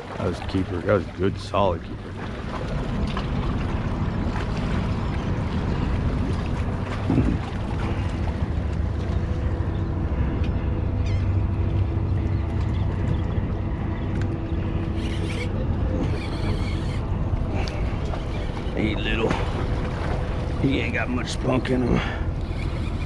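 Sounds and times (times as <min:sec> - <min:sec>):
boat engine drone: 0:00.0 - 0:23.0
wind rumbling on microphone: 0:00.0 - 0:23.0.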